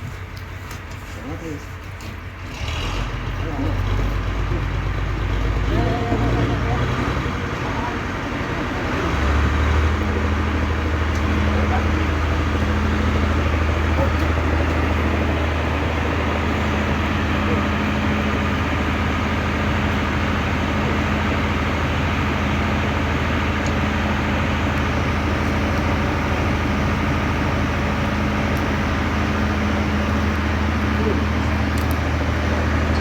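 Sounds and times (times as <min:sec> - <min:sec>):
sawmill motor hum: 0:03.4 - 0:33.0.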